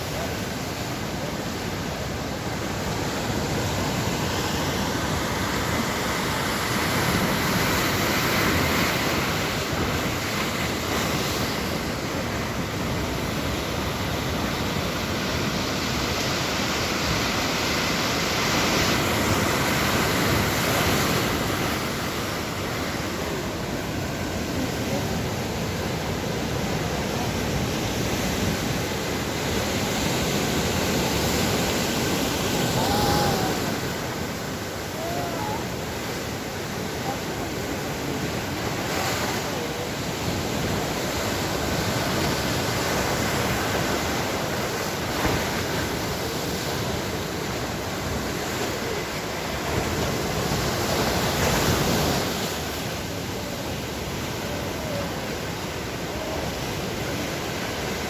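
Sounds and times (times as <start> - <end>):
ocean surf breaking: 0.0 - 58.0.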